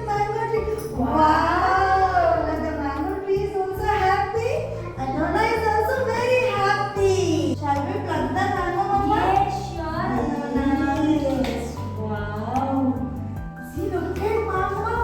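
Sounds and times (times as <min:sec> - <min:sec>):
instrumental backing with bass: 0:00.0 - 0:15.0.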